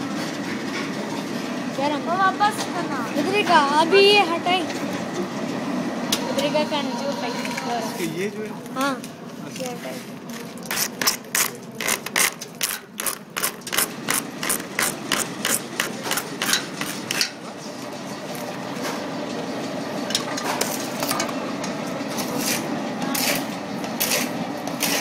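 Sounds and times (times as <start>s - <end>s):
steady machine hum: 0.0s - 9.5s, 12.8s - 25.0s.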